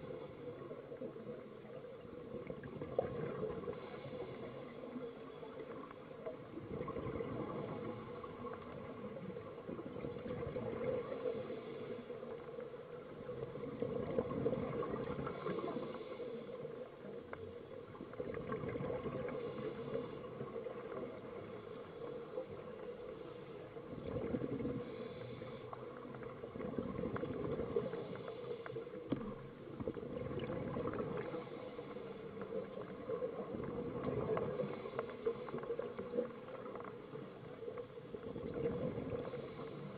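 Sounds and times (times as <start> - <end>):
steady underwater hum: 0.0 - 39.9.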